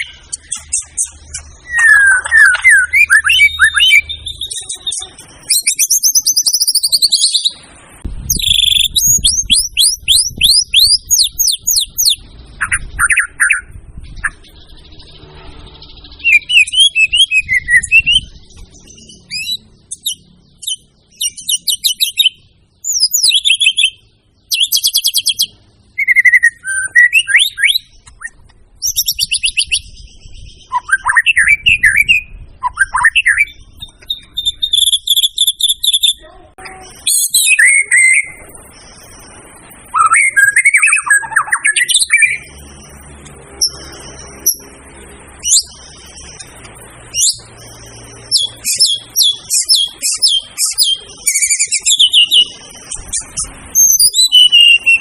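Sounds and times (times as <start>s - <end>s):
songbird singing trills and whistles: 0.0s - 55.0s.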